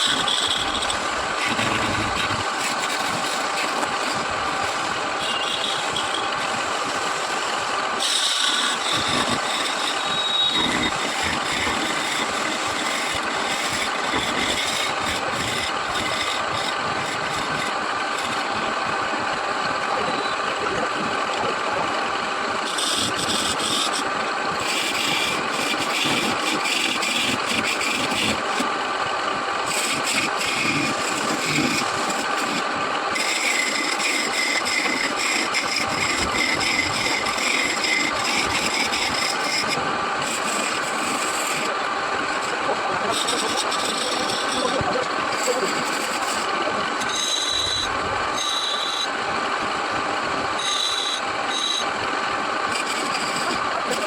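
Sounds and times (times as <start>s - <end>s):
turning tool scraping wood: 0.0s - 18.8s, 22.6s - 28.9s, 29.6s - 51.9s, 52.6s - 54.0s
wood lathe running: 0.0s - 54.0s.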